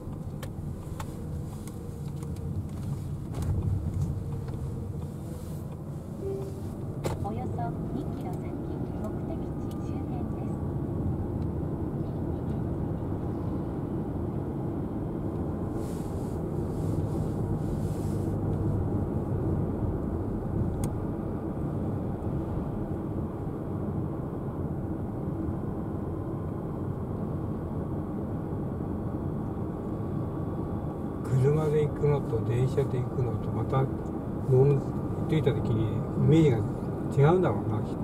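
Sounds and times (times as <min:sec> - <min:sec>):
car road and engine noise: 0:00.0 - 0:38.0.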